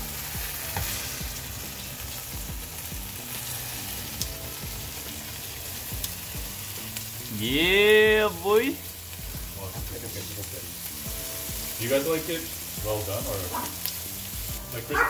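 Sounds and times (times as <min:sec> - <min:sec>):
pork sizzling in a pan: 0:00.0 - 0:15.0.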